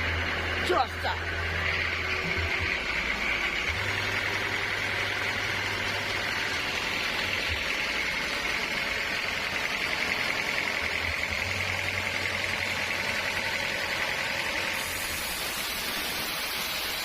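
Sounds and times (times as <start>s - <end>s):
low motor hum: 0.0s - 17.0s
sawmill high buzzing whine: 0.0s - 17.0s.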